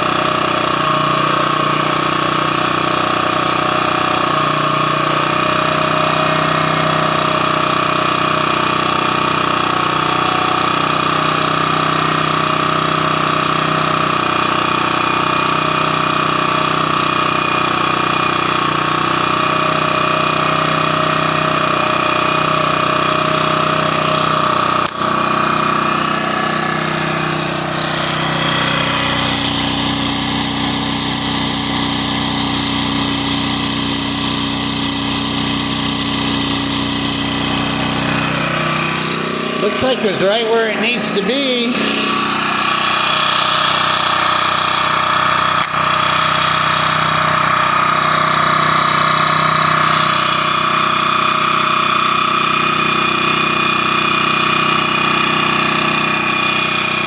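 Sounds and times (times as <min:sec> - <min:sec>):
generator engine running: 0:00.0 - 0:57.0.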